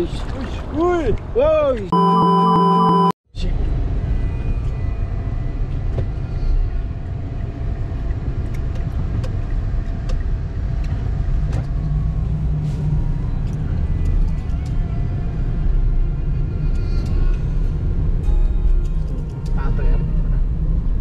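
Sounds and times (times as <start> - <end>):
moving vehicle rumble: 3.4 - 21.0.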